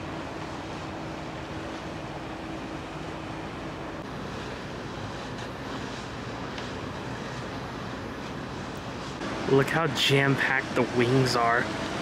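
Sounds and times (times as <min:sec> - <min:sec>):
ship engine rumble: 0:00.0 - 0:12.0
steady hum: 0:00.0 - 0:12.0.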